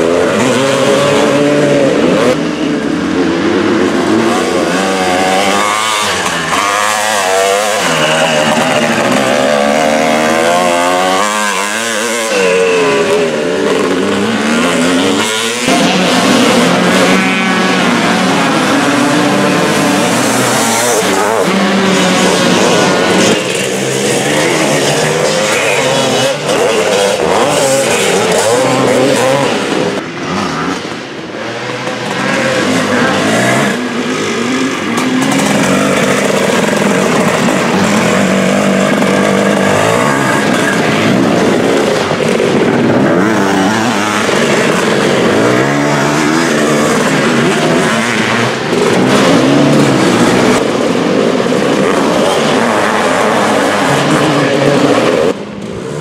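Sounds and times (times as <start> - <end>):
motocross bikes racing: 0.0 - 56.0.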